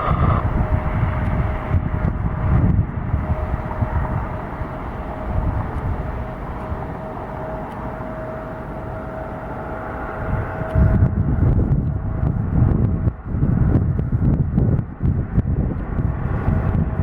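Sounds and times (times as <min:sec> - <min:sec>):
thin steady whine: 0:00.0 - 0:12.8, 0:16.2 - 0:17.0
jet engines rumbling: 0:00.0 - 0:17.0.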